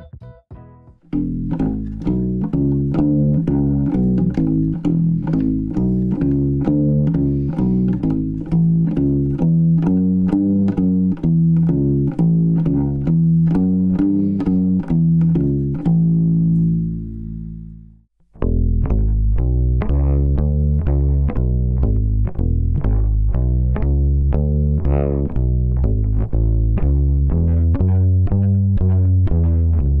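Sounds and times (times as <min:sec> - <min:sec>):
plucked acoustic bass notes: 0:00.0 - 0:30.0.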